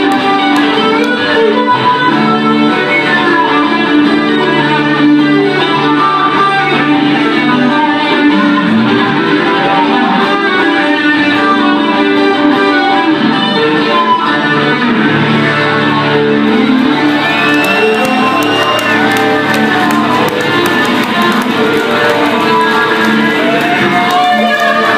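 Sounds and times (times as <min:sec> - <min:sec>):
acoustic guitar duet: 0:00.0 - 0:24.9.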